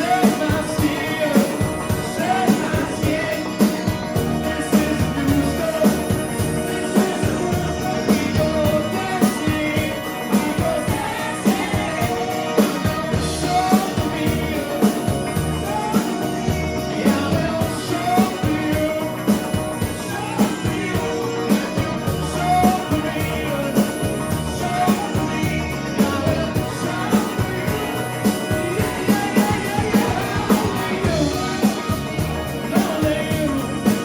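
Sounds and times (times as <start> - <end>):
rock band with vocals: 0.0 - 34.0
steady drum beat: 0.0 - 34.0.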